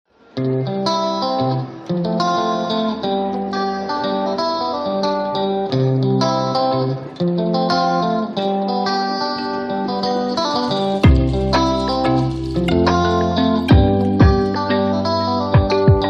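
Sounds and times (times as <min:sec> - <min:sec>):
plucked guitar music: 0:00.2 - 0:16.0.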